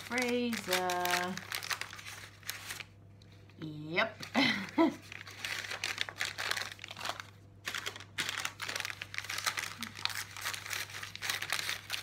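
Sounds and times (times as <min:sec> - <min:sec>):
wrapper tearing open: 0:00.0 - 0:03.0, 0:05.0 - 0:12.0
plastic wrapper crinkling: 0:00.0 - 0:03.5, 0:04.2 - 0:12.0.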